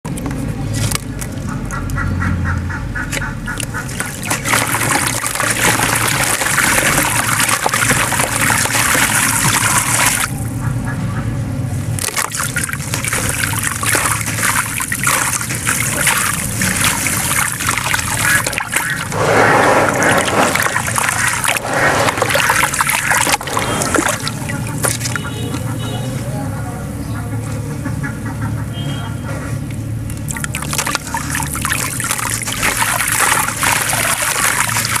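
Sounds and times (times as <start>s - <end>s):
water sloshing in plastic tub: 0.1s - 1.9s, 3.0s - 10.4s, 11.9s - 26.0s, 30.1s - 35.0s.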